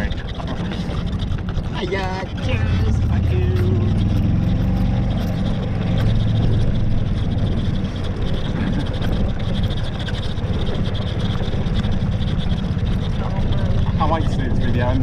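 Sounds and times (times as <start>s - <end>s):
buggy motor and tyres rumbling: 0.0s - 15.0s.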